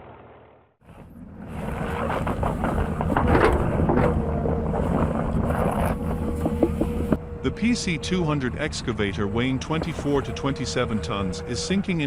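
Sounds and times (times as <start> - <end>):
heavy vehicle engine running: 2.3 - 12.0.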